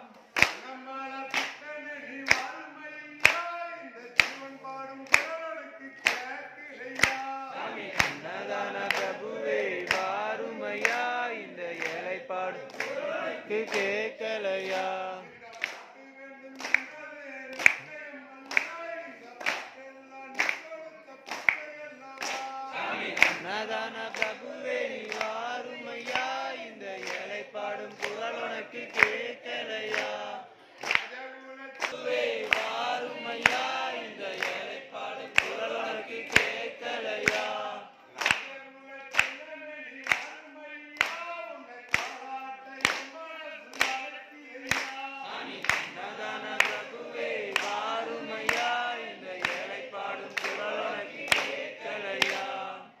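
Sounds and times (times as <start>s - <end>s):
group singing devotional song: 0.0s - 53.0s.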